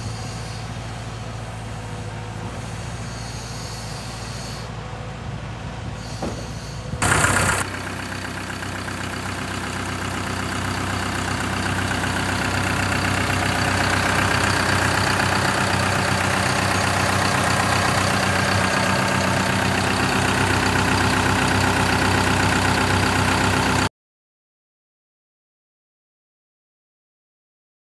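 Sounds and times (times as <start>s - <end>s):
diesel engine idling: 0.0s - 23.9s.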